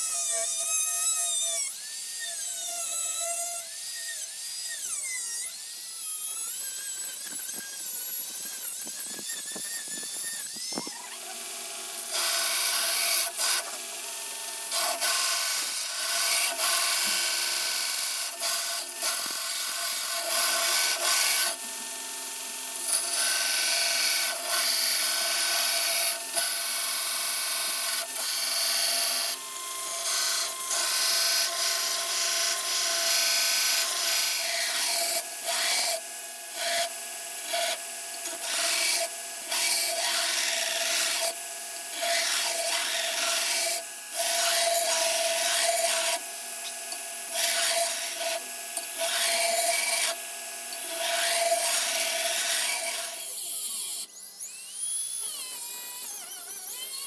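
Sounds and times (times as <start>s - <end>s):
belt grinder grinding steel: 0.0s - 57.0s
rotary tool cutting steel: 0.0s - 57.0s.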